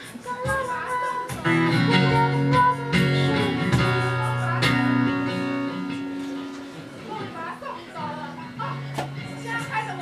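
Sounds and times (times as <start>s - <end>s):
strummed guitar chords: 0.0s - 10.0s.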